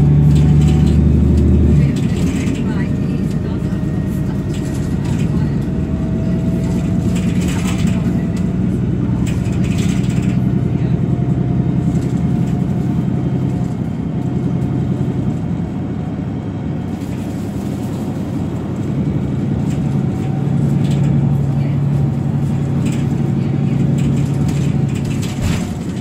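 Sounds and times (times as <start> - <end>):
bus diesel engine running: 0.0 - 26.0.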